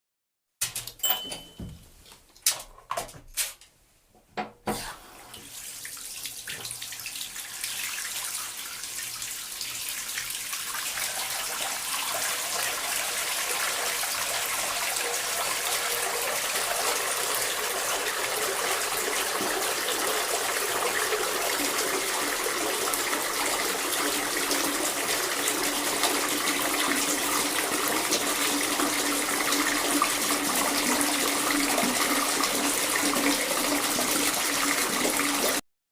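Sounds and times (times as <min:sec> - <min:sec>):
bath tap running into tub: 0:04.7 - 0:35.6.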